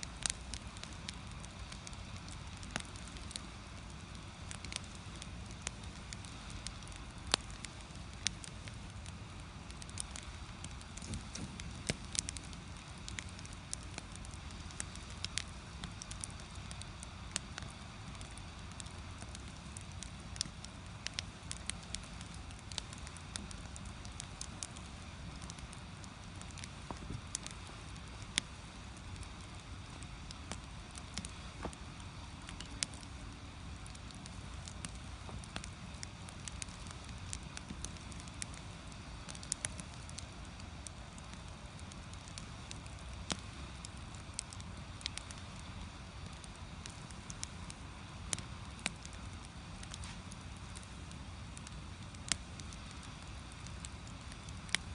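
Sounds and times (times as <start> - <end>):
fire low rumble: 0.0 - 54.9
firewood crackling and popping: 0.0 - 54.9.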